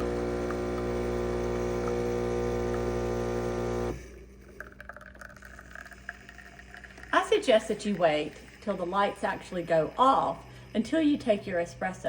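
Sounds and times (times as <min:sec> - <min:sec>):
espresso machine pump humming: 0:00.0 - 0:11.9.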